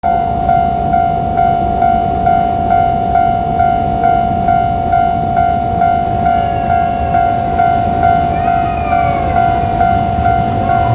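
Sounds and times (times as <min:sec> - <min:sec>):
level crossing warning bell: 0:00.0 - 0:10.9.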